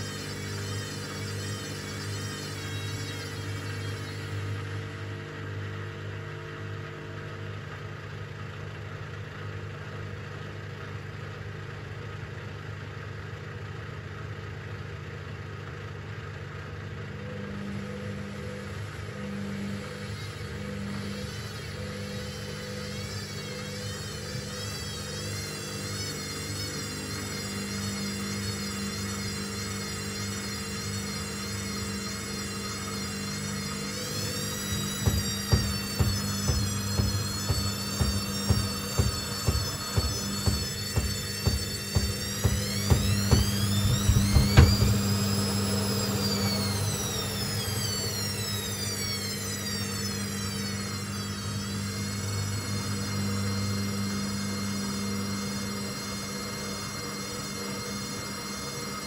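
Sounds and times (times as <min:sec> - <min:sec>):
washing machine motor humming: 0:00.0 - 0:07.9, 0:17.0 - 0:58.6
high whine wavering in pitch: 0:00.0 - 0:08.0, 0:16.8 - 0:59.0.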